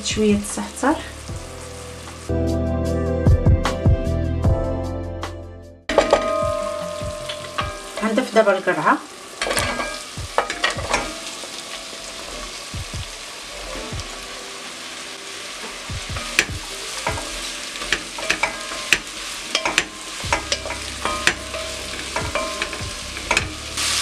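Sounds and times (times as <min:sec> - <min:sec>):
vegetables sizzling in a pot: 0:00.0 - 0:02.6, 0:05.9 - 0:24.0.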